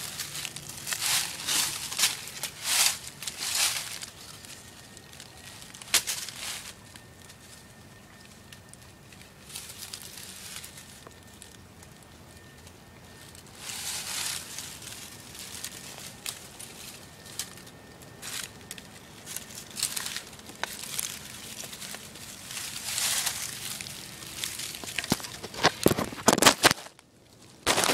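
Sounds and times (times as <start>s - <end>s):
footsteps through dry leaves: 0.0s - 27.9s.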